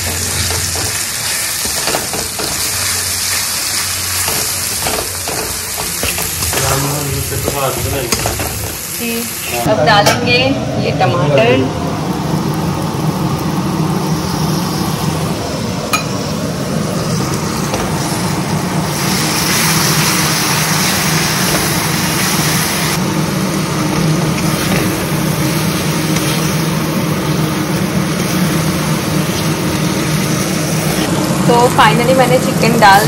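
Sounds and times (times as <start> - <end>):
food sizzling in hot oil: 0.0 - 10.0, 11.5 - 33.0.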